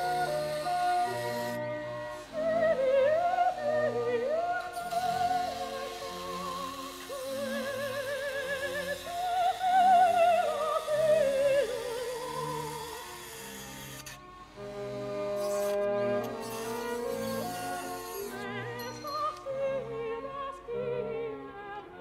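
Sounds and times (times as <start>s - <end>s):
slow melody with wavering vibrato: 0.0s - 21.3s.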